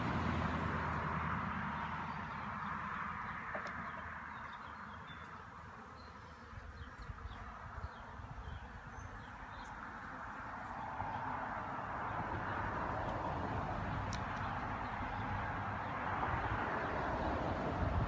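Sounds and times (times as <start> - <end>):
honeybees buzzing: 1.0 - 17.4.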